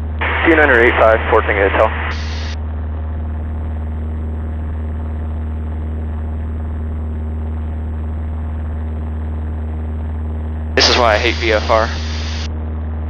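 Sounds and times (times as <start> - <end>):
propeller engine droning: 0.0 - 13.0.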